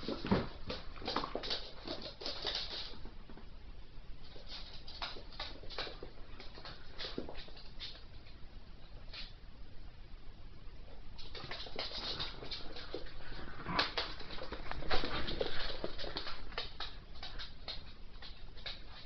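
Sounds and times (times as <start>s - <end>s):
dogs scuffling and rustling: 0.0s - 3.5s, 4.2s - 8.4s, 11.2s - 19.0s.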